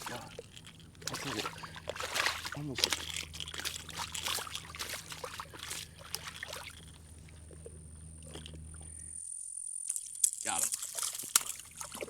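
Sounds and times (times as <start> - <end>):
fish splashing in shallow water: 0.0 - 8.9, 9.9 - 12.0.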